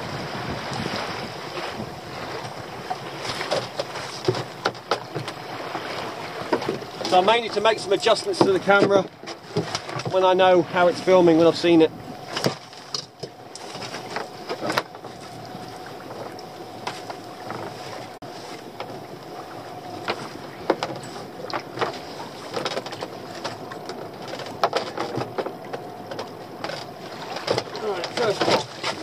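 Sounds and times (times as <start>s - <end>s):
rope knocking and rubbing on boat: 1.5s - 29.0s.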